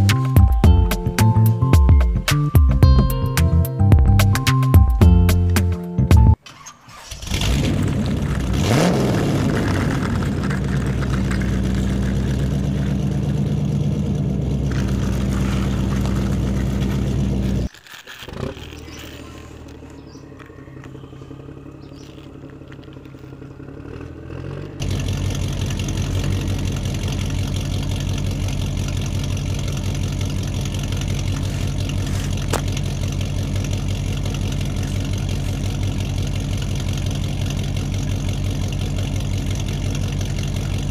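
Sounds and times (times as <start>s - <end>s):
engine running and revving: 7.0s - 40.9s.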